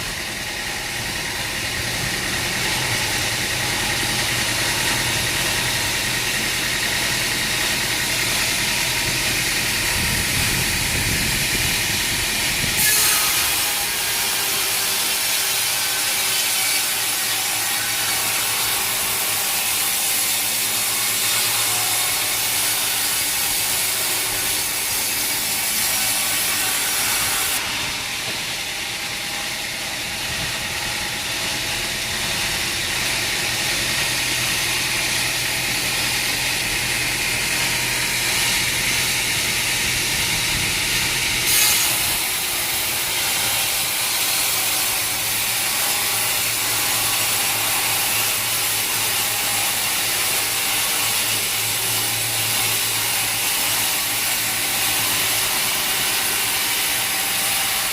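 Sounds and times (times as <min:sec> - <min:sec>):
saw cutting through wood: 0:00.0 - 0:57.9.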